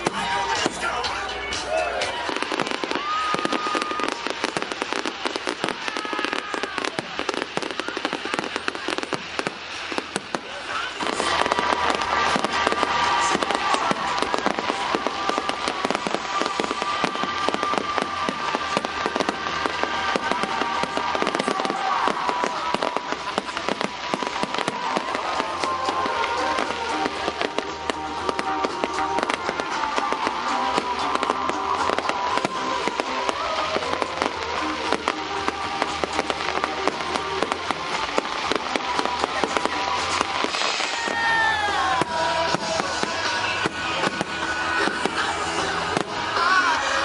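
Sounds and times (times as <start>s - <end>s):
firework bangs and crackles: 0.0s - 47.0s.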